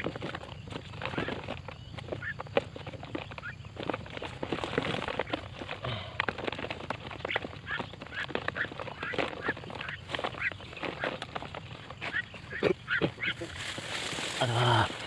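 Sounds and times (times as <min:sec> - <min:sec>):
birds squawking: 0:00.0 - 0:15.0.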